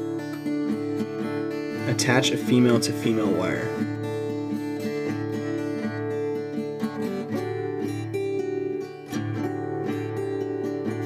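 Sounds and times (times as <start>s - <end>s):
acoustic guitar background music: 0.0s - 11.0s.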